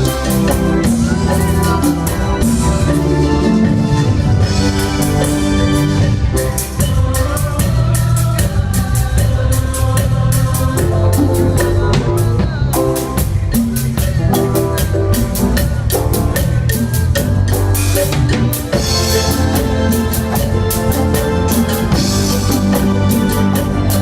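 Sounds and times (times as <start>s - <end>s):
band playing cumbia: 0.0s - 24.0s
drum kit fast beat: 0.0s - 24.0s.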